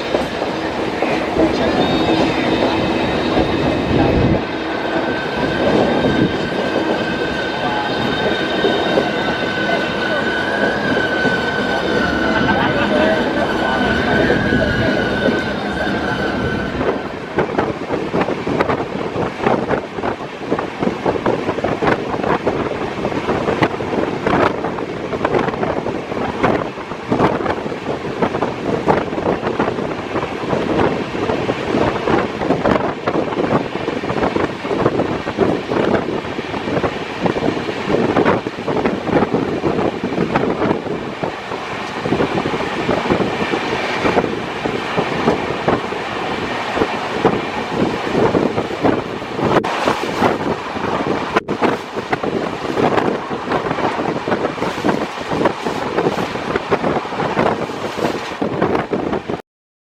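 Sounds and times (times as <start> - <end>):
train rumble: 0.0 - 59.4
wind buffeting microphone: 0.0 - 59.4.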